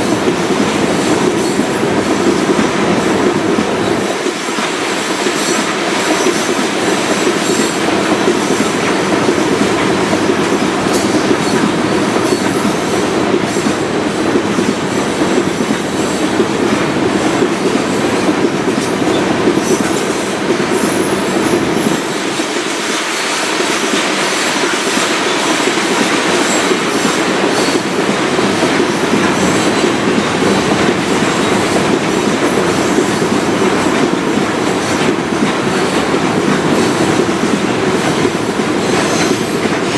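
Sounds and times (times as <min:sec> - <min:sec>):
freight train cars rolling: 0:00.0 - 0:39.9.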